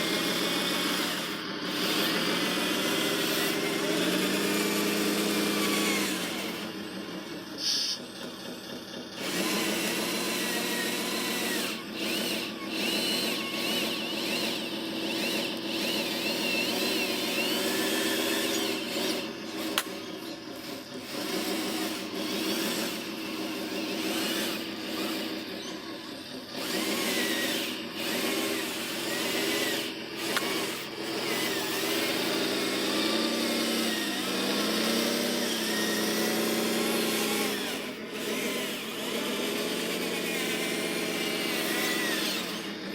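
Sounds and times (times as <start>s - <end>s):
small electric motors whining: 0.0s - 42.9s.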